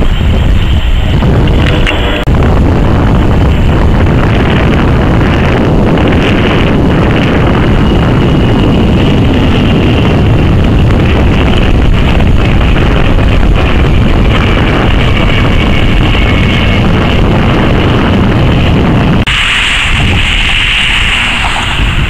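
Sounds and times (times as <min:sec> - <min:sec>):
jet engine roar overhead: 0:00.0 - 0:22.0
wind on microphone: 0:00.0 - 0:22.0.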